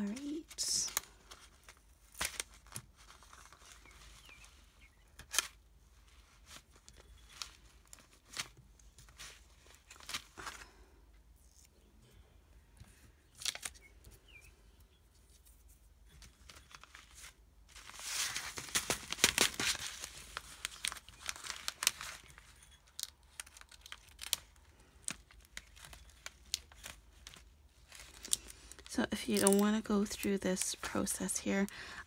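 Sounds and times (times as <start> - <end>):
plastic sleeve crinkling: 0.0 - 10.8, 13.2 - 14.4, 15.1 - 32.0.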